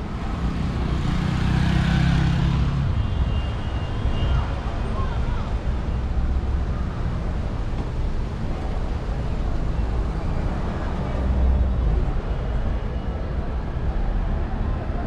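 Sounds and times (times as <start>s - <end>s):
car traffic passing: 0.0s - 15.0s.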